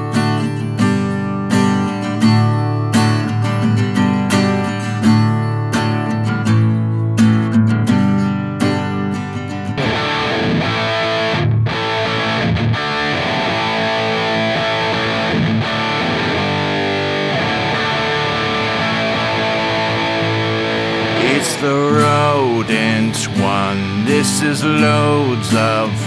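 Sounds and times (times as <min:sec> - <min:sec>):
acoustic guitar strumming: 0:00.0 - 0:26.0
overdriven electric guitar: 0:00.0 - 0:26.0.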